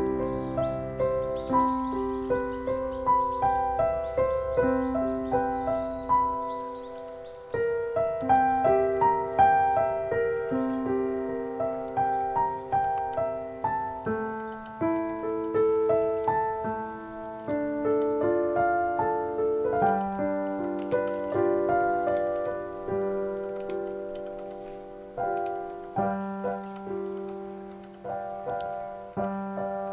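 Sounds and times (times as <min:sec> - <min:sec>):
slow piano melody: 0:00.0 - 0:29.9.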